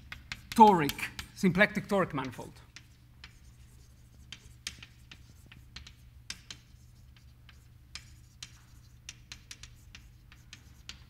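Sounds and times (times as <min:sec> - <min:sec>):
chalk tapping and scraping on blackboard: 0:00.0 - 0:11.0
low room hum: 0:00.0 - 0:11.0.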